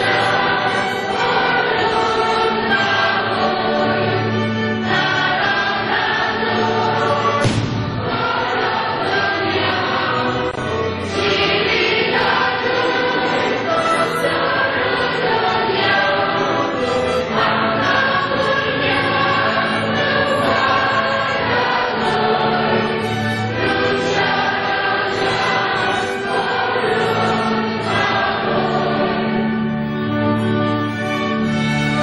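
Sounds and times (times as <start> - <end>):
choir and congregation singing hymn: 0.0 - 32.0
instrumental accompaniment: 0.0 - 32.0.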